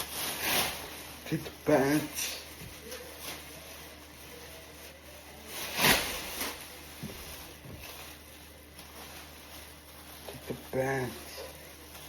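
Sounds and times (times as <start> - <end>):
plastic pants rustling: 0.0 - 12.0.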